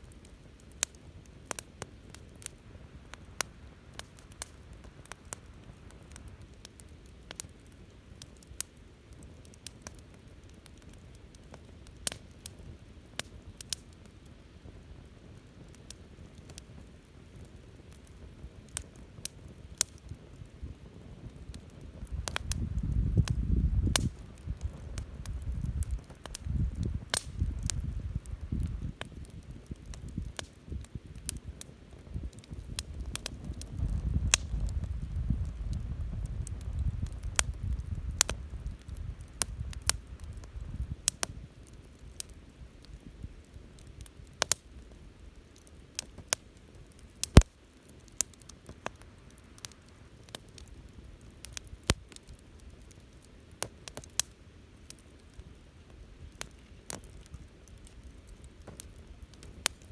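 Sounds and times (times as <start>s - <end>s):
bonfire crackling: 0.0s - 59.9s
fire pops and snaps: 0.0s - 59.9s.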